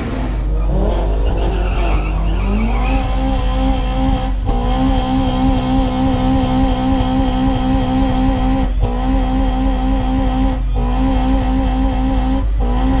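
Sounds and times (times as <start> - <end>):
pickup engine revving inside cab: 0.0 - 13.0.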